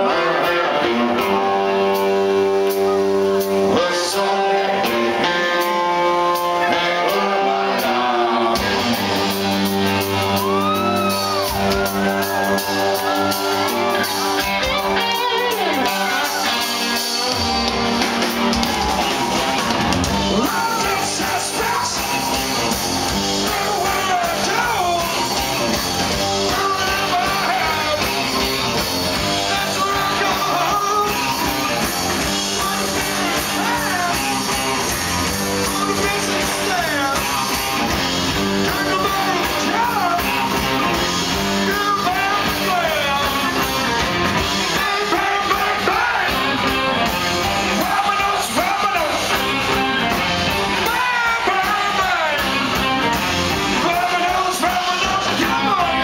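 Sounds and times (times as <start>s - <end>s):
man singing lead vocal: 0.0s - 2.4s, 3.3s - 9.4s, 12.4s - 17.7s, 20.1s - 49.9s, 50.5s - 56.0s
drums: 0.0s - 56.0s
electric guitars: 0.0s - 56.0s.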